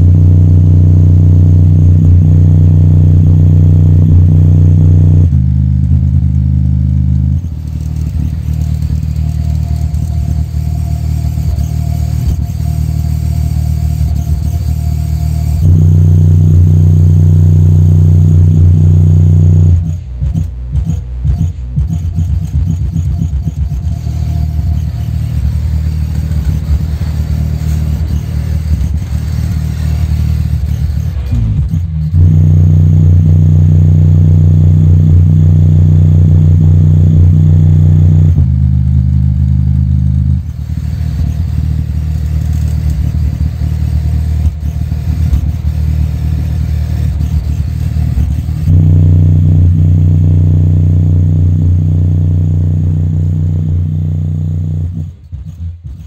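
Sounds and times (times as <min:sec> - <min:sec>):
deep bass notes from subwoofer: 0:00.0 - 0:56.0.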